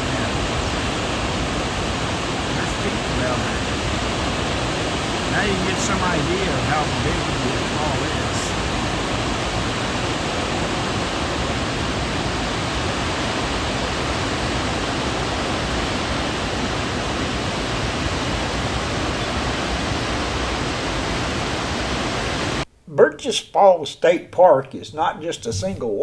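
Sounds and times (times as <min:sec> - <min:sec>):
waterfall rushing: 0:00.0 - 0:22.6.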